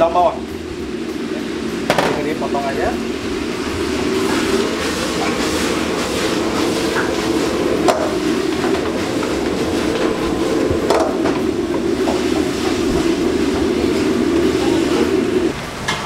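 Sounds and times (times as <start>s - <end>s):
food sizzling: 0.0s - 16.0s
gas burner rushing: 0.0s - 16.0s.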